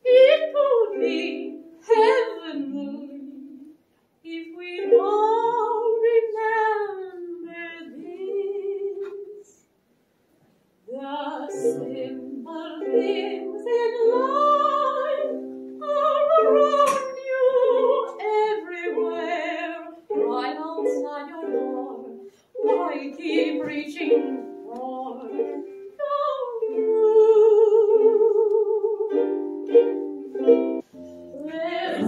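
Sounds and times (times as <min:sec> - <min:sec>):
woman singing operatically: 0:00.0 - 0:03.7, 0:04.3 - 0:09.4, 0:10.9 - 0:29.3, 0:31.4 - 0:32.0.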